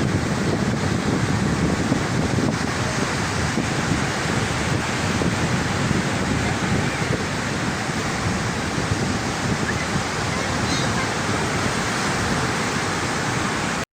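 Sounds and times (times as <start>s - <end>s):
sea surf washing on beach: 0.0s - 13.8s
wind rumbling on microphone: 0.0s - 13.8s.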